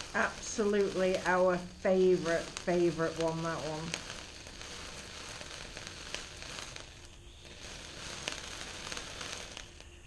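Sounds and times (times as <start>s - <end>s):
firework fountain hissing sparks: 0.0s - 10.0s
sharp crackles: 0.0s - 10.0s.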